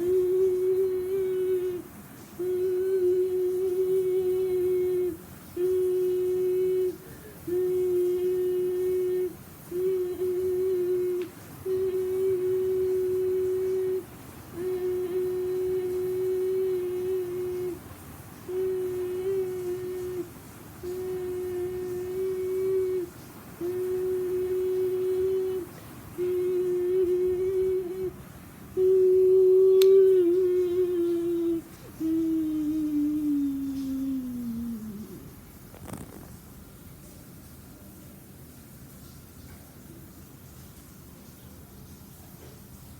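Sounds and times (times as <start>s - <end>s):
person humming: 0.0s - 36.1s.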